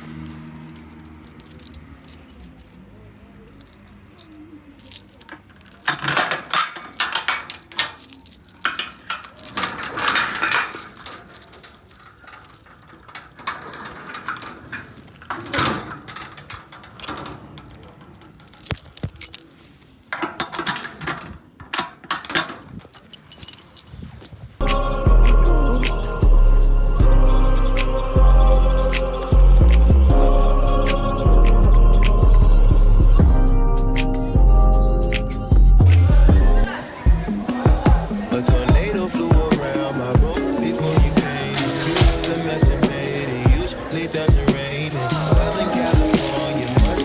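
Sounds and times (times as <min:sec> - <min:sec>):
keys jangling: 0:00.0 - 0:19.8, 0:21.8 - 0:30.8, 0:35.1 - 0:47.0.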